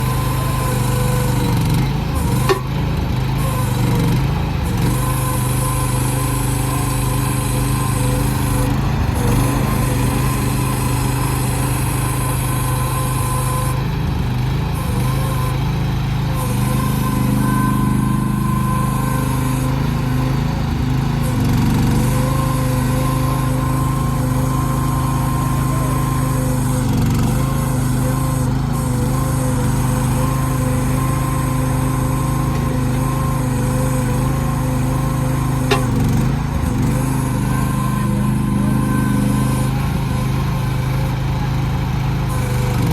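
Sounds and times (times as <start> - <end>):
small excavator engine running: 0.0 - 42.9
thin steady whine: 0.0 - 42.9.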